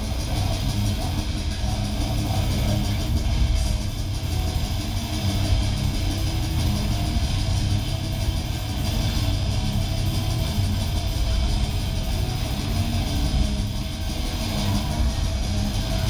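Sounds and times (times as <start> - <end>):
distorted electric guitar: 0.0 - 16.0
drums: 0.0 - 16.0.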